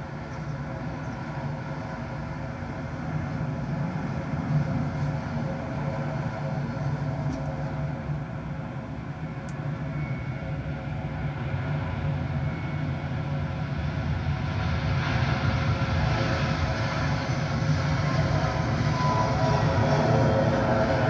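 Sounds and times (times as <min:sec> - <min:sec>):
jet airliner engines whining: 0:00.1 - 0:21.0.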